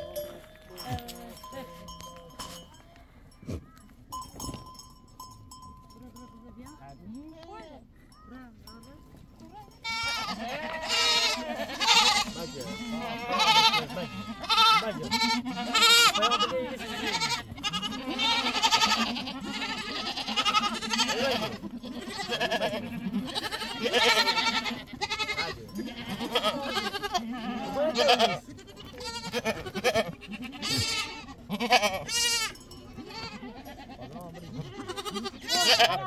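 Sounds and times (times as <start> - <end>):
goats bleating: 0.0 - 2.8, 9.8 - 36.0.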